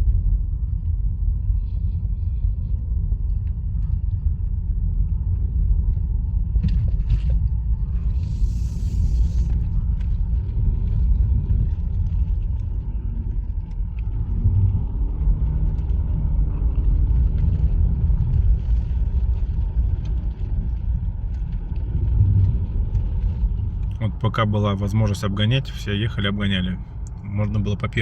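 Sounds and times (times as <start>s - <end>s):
road and tyre rumble in car: 0.0s - 28.0s.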